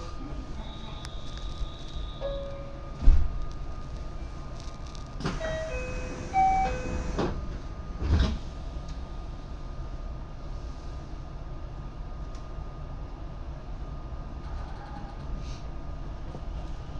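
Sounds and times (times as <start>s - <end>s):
train car background noise: 0.0s - 16.9s.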